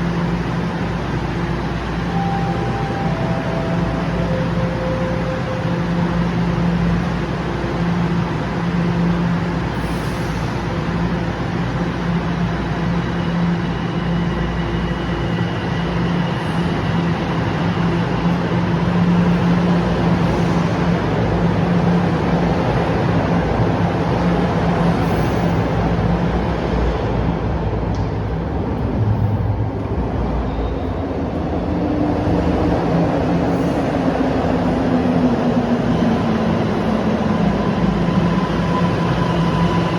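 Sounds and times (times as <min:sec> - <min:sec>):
subway train rumbling: 0:00.0 - 0:39.9.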